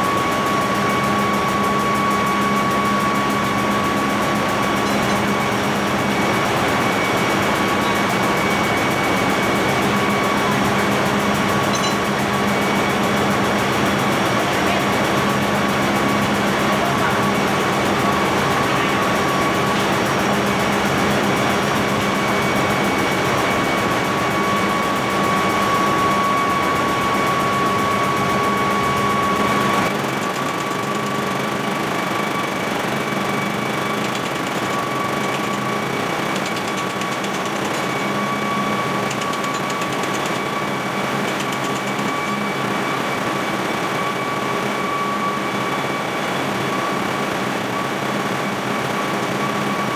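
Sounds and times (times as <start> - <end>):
engine-room machinery hum: 0.0 - 49.9.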